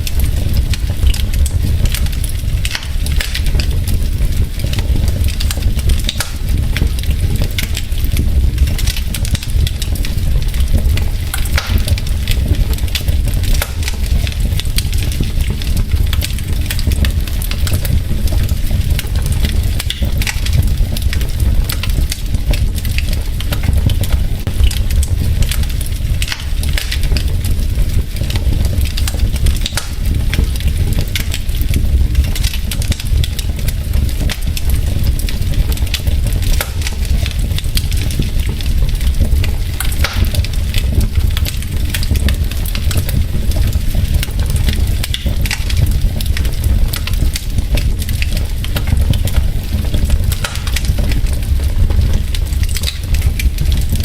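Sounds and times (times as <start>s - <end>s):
logs crackling and popping: 0.0s - 54.0s
low fire rumble: 0.0s - 54.0s.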